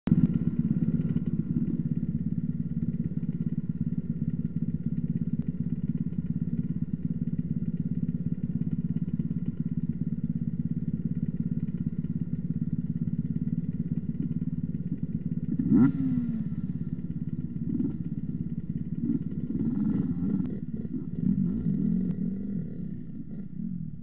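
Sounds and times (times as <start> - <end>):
motorcycle engine running steadily: 0.0 - 24.0.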